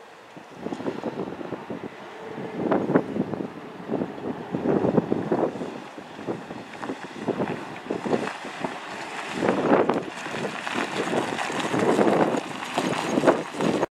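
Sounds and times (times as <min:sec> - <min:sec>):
truck engine and tyres: 0:00.0 - 0:13.9
wind buffeting microphone: 0:00.4 - 0:13.9.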